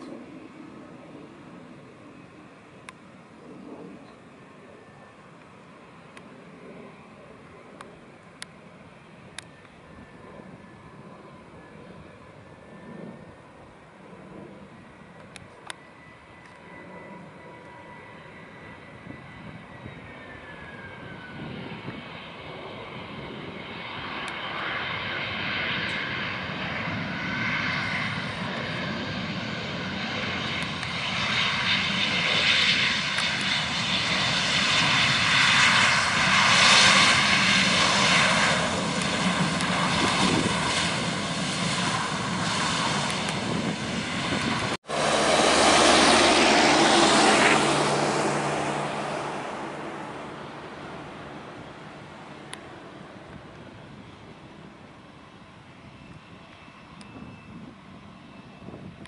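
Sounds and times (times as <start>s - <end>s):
jet airliner approaching roaring: 0.0s - 59.0s
jet airliner rolling out roaring: 0.0s - 59.0s.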